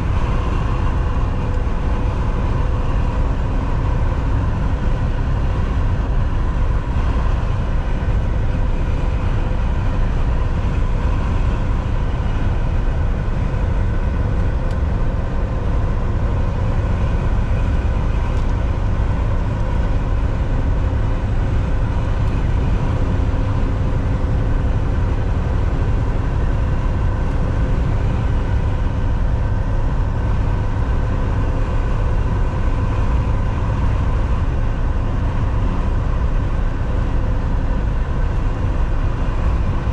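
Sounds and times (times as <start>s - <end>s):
diesel truck engine rumble: 0.0s - 39.9s
road and tyre noise: 0.0s - 39.9s.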